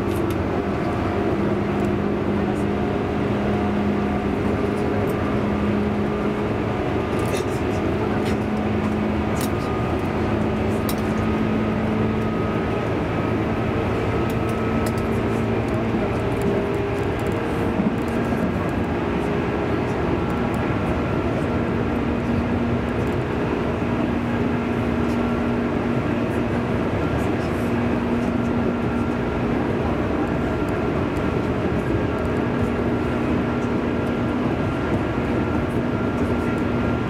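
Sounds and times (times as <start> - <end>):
low hum of running gear: 0.0 - 37.0
train wheels rumbling on rails: 0.0 - 37.0.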